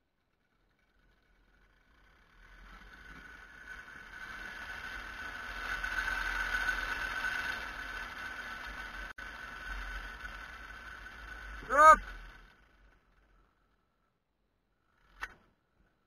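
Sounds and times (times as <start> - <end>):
line cart whine: 0.0 - 14.1.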